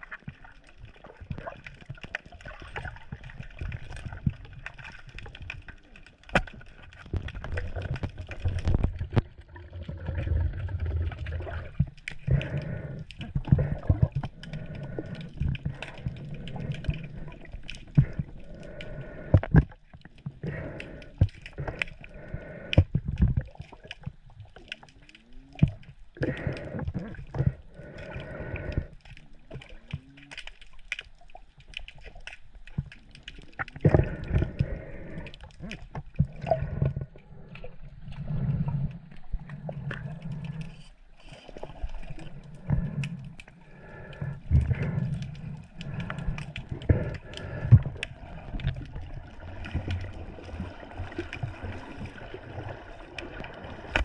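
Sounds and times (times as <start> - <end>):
sea water sloshing and gurgling: 0.0 - 54.0.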